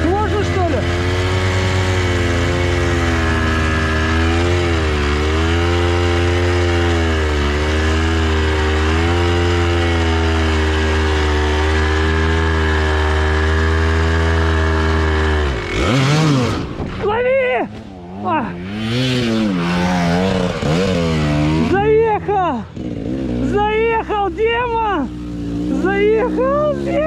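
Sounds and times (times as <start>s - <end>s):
motorcycle engine revving under load: 0.0s - 27.0s.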